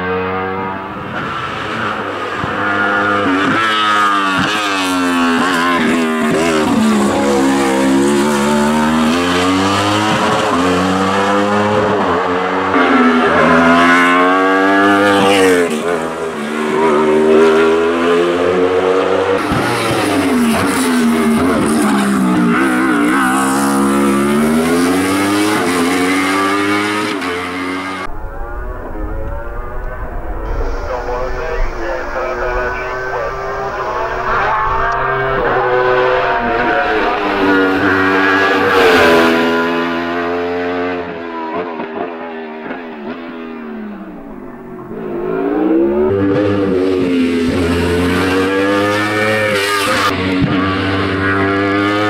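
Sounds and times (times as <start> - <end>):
racing car engine revving: 0.0 - 52.0.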